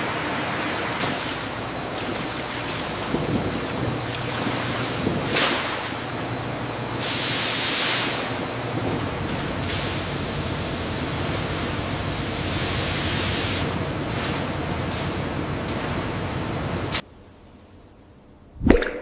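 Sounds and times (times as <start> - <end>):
steady hissing noise: 1.1 - 18.5.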